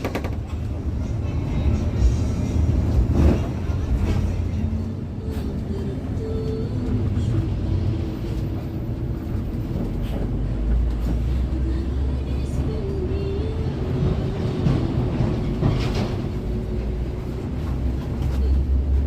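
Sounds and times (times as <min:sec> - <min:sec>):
coach engine rumble and road noise: 0:00.0 - 0:19.0.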